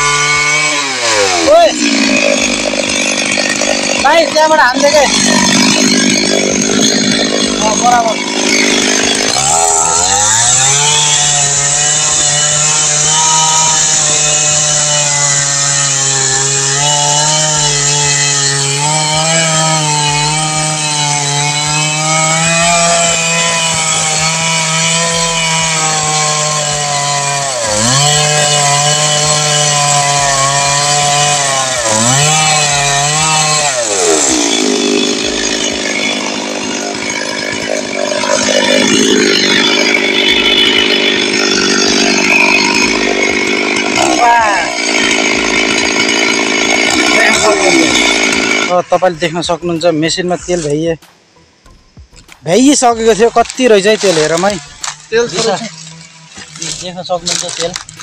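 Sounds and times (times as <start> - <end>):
chainsaw sawing into wood: 0.0 - 58.0.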